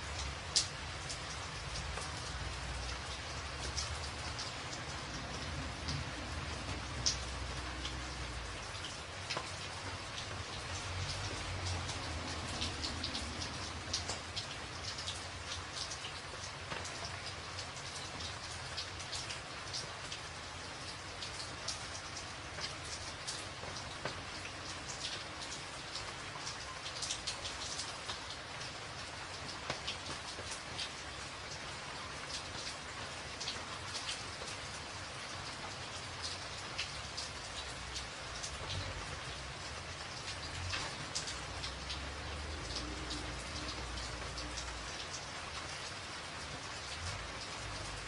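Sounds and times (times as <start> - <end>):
rain on a tin roof: 0.0 - 48.0.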